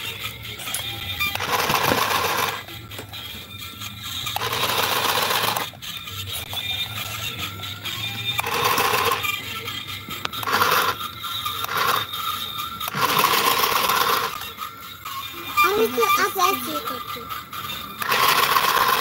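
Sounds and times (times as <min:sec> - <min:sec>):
toy sewing machine running: 0:00.0 - 0:02.7, 0:04.0 - 0:07.4, 0:08.0 - 0:09.4, 0:10.3 - 0:14.6, 0:15.5 - 0:19.0.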